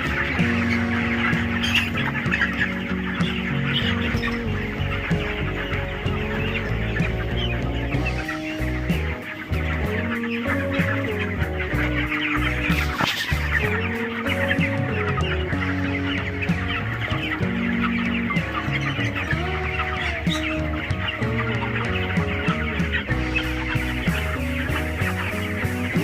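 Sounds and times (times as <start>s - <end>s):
background music: 0.0s - 26.0s
chicks cheeping: 0.0s - 26.0s.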